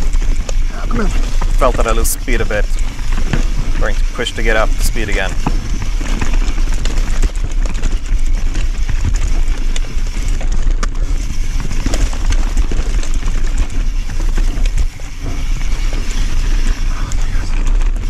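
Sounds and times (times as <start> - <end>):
bike knocking over bumps: 0.0 - 4.2, 5.1 - 18.0
bike tyres and chain rattling: 0.0 - 18.0.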